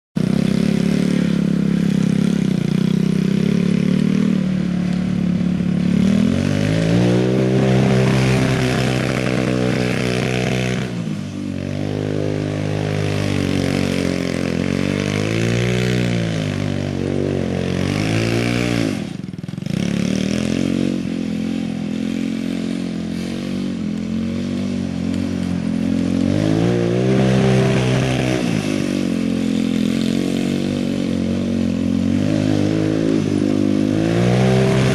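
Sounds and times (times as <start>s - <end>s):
buggy engine revving: 0.2s - 34.9s.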